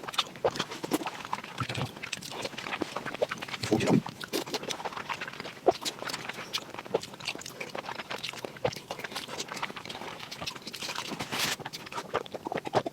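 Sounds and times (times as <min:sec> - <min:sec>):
close chewing and lip-smacking: 0:00.0 - 0:12.9.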